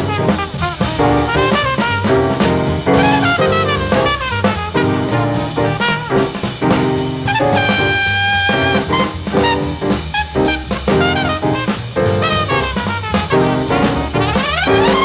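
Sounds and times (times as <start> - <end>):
double bass: 0.0 - 15.0
drums: 0.0 - 15.0
horn playing fast melody: 0.0 - 15.0
piano: 0.0 - 15.0.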